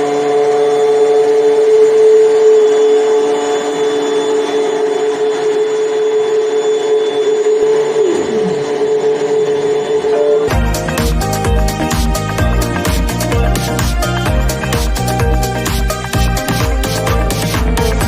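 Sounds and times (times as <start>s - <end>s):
blender motor whine: 0.0s - 18.0s
lower tone sliding down: 0.0s - 18.0s.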